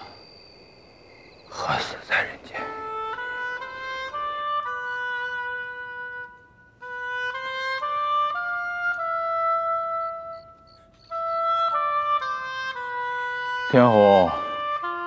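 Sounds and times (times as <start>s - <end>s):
solo wind instrument melody: 1.7s - 15.0s.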